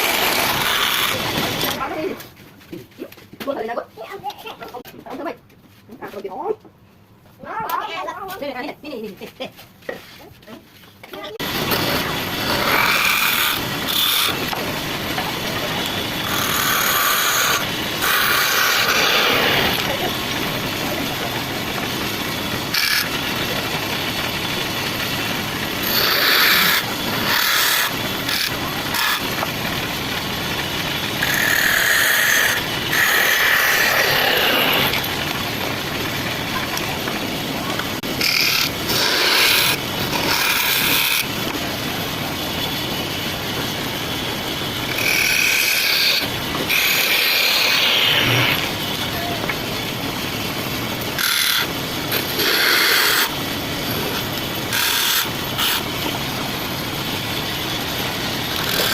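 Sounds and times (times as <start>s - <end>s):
wood lathe running: 0.0s - 2.0s, 11.4s - 58.9s
tool cutting spinning wood: 0.0s - 2.3s, 11.1s - 58.9s.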